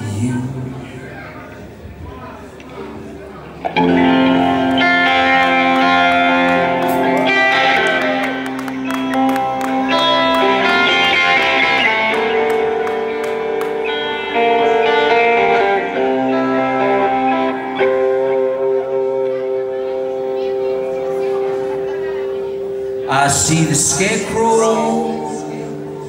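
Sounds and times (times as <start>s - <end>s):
electric guitar sustained notes: 2.9s - 26.0s
live rock band playing: 3.6s - 26.0s.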